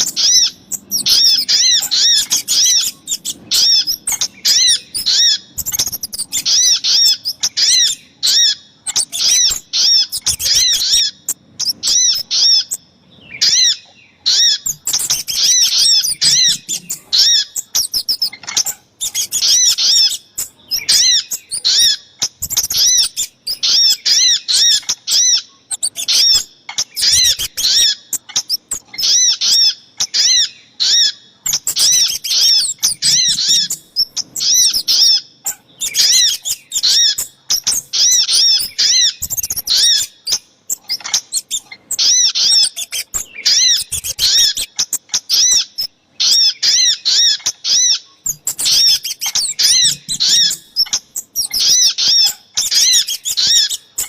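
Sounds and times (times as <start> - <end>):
bird calls with high notes: 0.0 - 12.8, 13.4 - 54.0.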